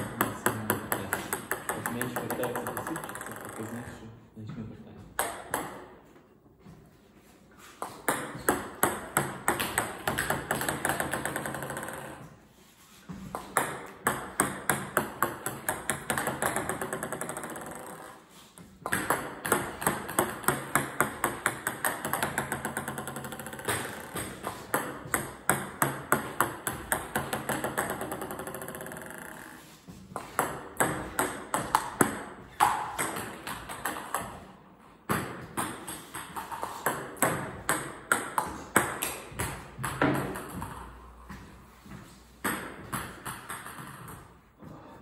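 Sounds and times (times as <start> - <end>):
table tennis balls clicking: 0.0 - 3.9, 7.8 - 12.3, 13.3 - 41.2, 42.4 - 44.5.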